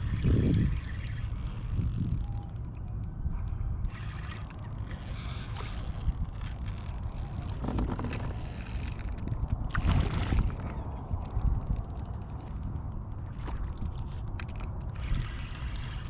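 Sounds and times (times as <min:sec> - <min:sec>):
water lapping around kayak: 0:00.0 - 0:16.0
wind rumbling on microphone: 0:00.0 - 0:16.0.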